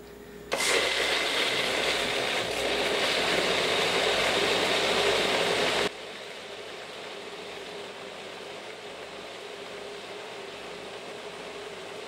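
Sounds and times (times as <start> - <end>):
blender running: 0.5 - 12.0.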